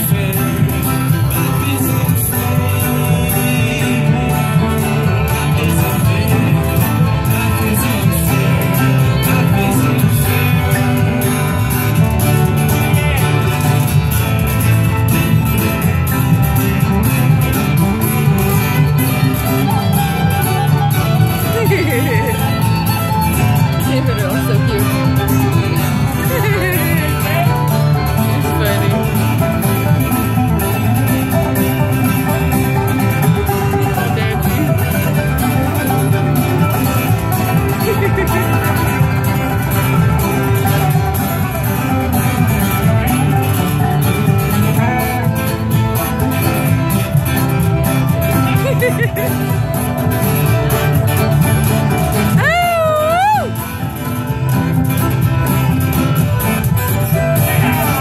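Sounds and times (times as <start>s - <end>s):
acoustic guitar: 0.0s - 58.0s
box-drum beat: 0.0s - 58.0s
electric bass: 0.0s - 58.0s
fiddle: 0.0s - 58.0s
mandolin: 0.0s - 58.0s.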